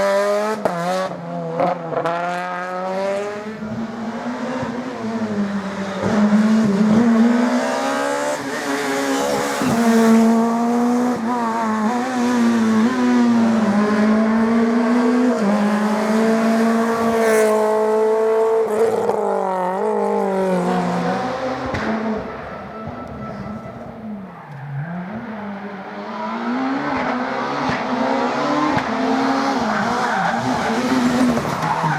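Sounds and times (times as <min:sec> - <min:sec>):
rally car engine revving: 0:00.0 - 0:31.9.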